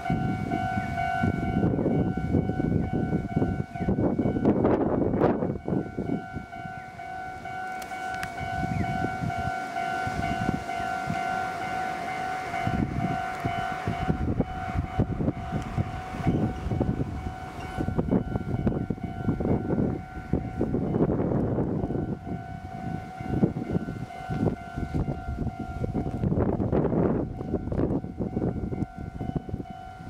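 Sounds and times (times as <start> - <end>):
low rumble of passing train: 0.0 - 30.0.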